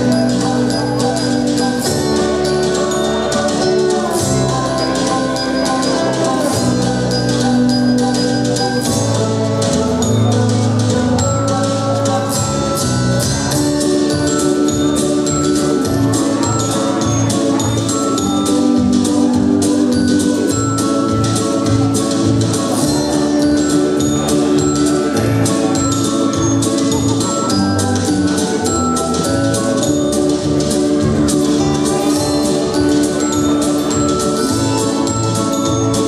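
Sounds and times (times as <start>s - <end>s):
bass line: 0.0s - 36.0s
mallet percussion music: 0.0s - 36.0s.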